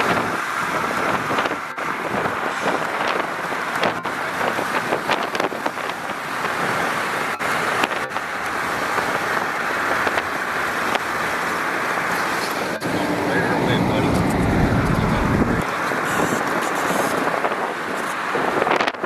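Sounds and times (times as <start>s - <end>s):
car interior driving noise: 0.0s - 19.0s.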